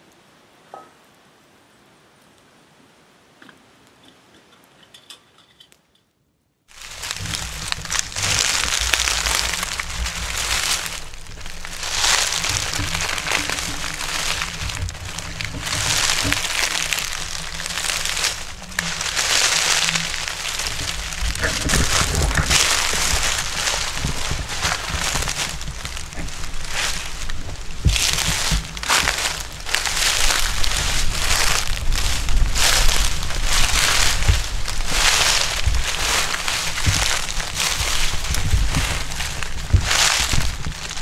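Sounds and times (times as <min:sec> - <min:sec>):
footsteps crunching dry leaves: 0:06.7 - 0:41.0.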